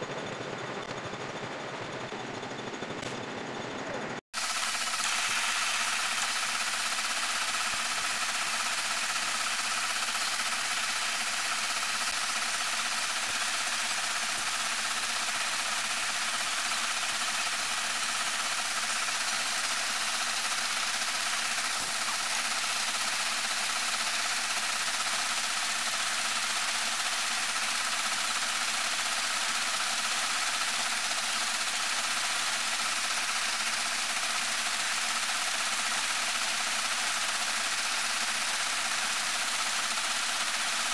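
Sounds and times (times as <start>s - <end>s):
lathe running: 0.0s - 40.9s.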